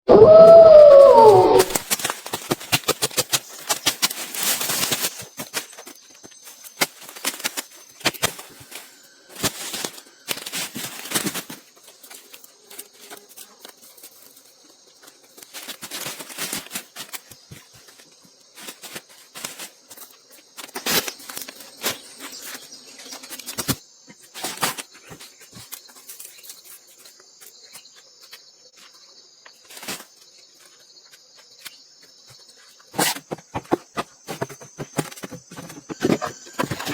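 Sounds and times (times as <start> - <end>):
high insect drone: 3.4 - 36.9.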